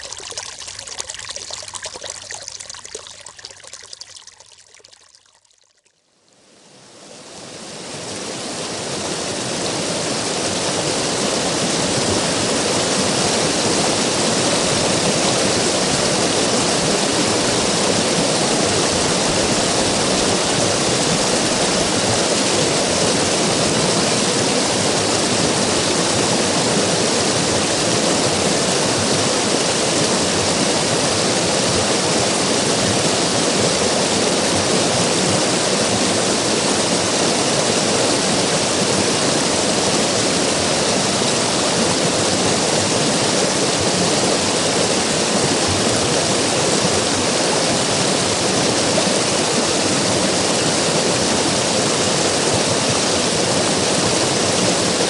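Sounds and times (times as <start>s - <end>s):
river water rushing and splashing: 0.0s - 5.0s, 7.1s - 55.0s.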